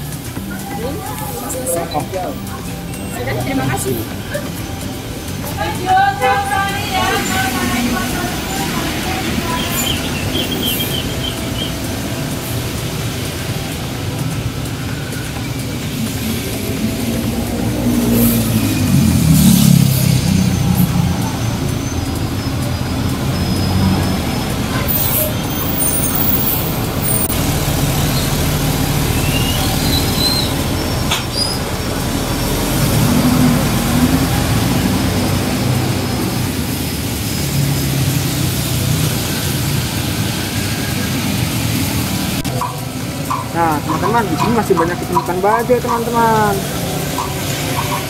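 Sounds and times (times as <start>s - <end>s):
electric train rumbling: 0.0s - 48.0s
high train squeals: 1.3s - 48.0s.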